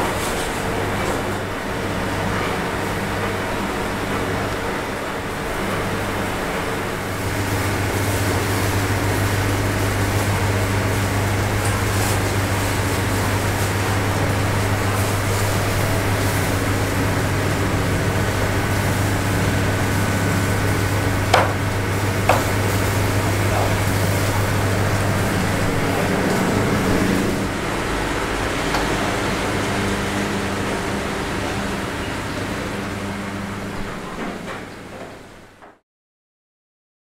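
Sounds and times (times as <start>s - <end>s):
steady machine hum with hiss: 0.0s - 35.8s.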